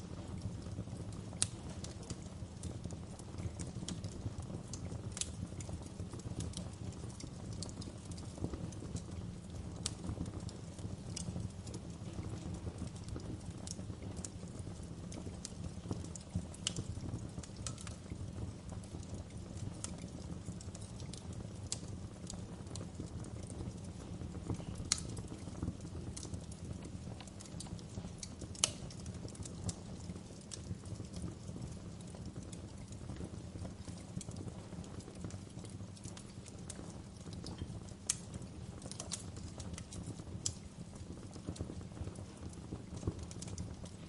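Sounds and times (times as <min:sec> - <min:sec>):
fire crackles and pops: 0:00.0 - 0:44.0
wood fire burning in a fireplace: 0:00.0 - 0:44.0.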